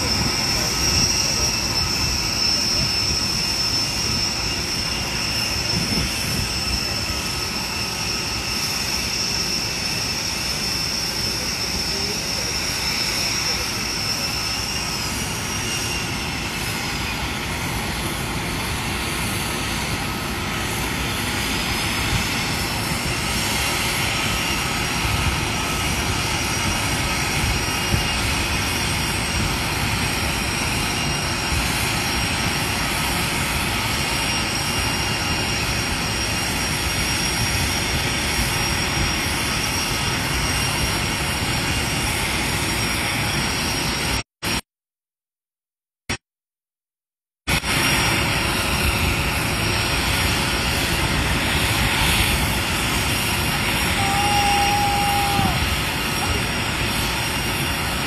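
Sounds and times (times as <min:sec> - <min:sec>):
jet turbine roar with whine: 0:00.0 - 0:44.6, 0:47.5 - 0:58.0.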